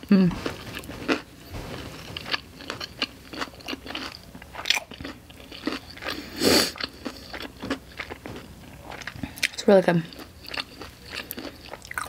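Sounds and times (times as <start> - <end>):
crunchy chewing of fried chicken: 0.4 - 12.0.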